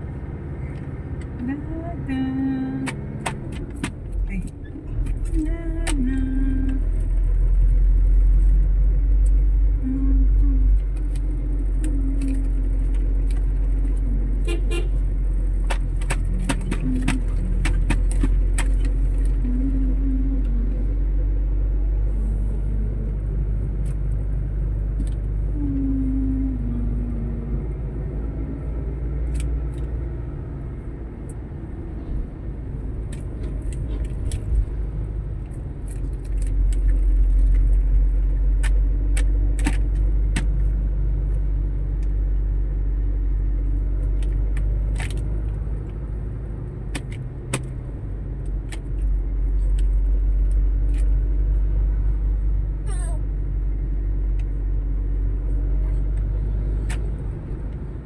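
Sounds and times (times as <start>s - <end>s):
motor vehicle rumble: 0.0s - 58.0s.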